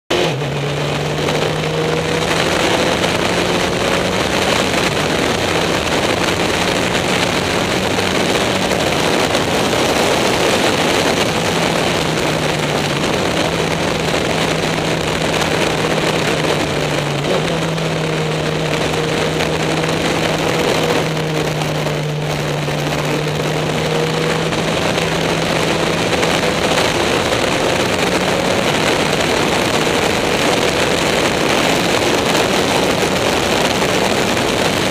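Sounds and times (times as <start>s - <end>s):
racing car engine: 0.0s - 34.9s
wind rushing: 0.1s - 34.9s.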